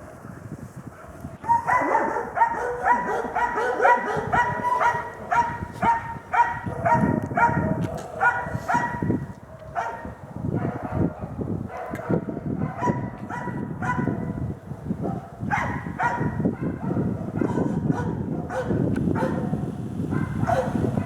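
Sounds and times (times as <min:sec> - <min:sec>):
dogs barking: 0:01.0 - 0:21.0.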